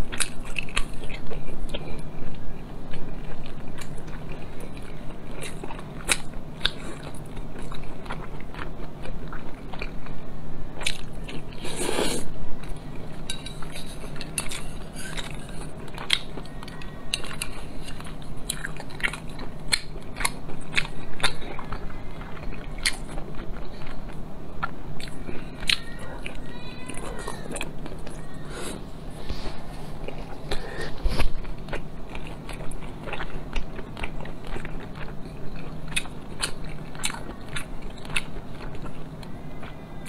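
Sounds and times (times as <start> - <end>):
close chewing: 0.0 - 10.2, 10.8 - 40.0.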